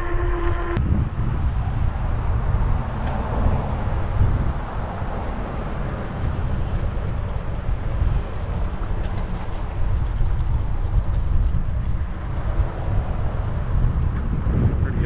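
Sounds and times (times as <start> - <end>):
bicycle tyre road noise: 0.0 - 15.0
wind rumble on microphone: 0.0 - 15.0.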